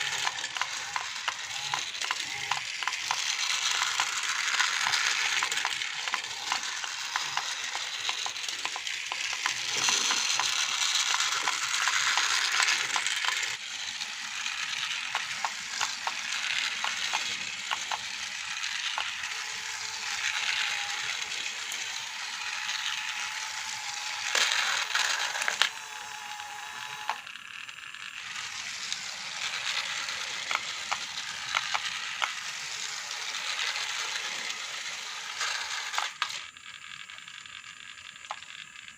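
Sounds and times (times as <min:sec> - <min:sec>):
toy gears and wheels clattering: 0:00.0 - 0:38.9
toy motor whine: 0:00.0 - 0:38.9.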